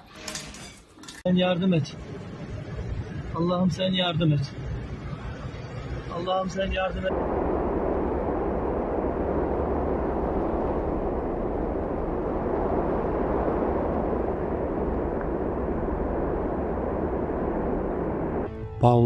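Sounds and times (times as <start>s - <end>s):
steady low rushing noise: 1.9s - 18.7s.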